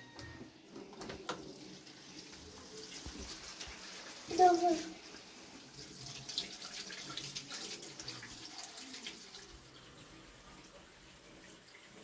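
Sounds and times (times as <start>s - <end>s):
water splashing and trickling: 1.3s - 12.0s.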